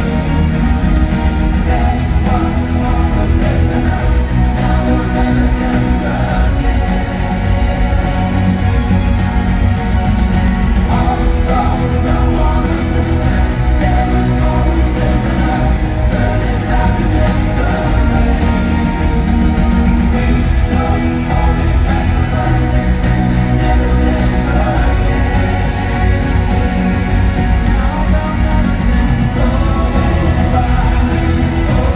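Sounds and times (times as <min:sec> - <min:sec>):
live pop-rock band playing: 0:00.0 - 0:31.9
person singing: 0:00.0 - 0:31.9.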